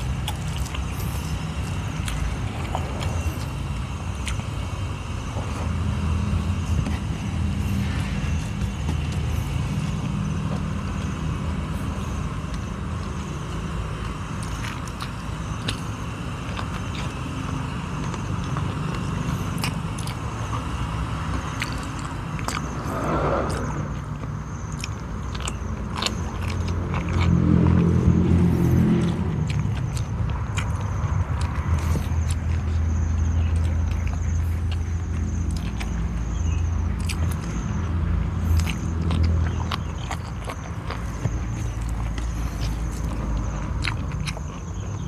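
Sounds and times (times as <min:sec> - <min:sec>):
crunchy chewing of vegetables: 0:00.0 - 0:45.0
low steady rumble: 0:00.0 - 0:45.0.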